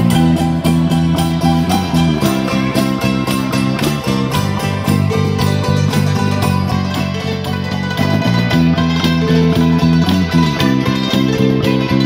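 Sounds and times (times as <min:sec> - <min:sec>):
electric bass guitar line: 0:00.0 - 0:12.0
hammered dulcimers ringing notes: 0:00.0 - 0:12.0.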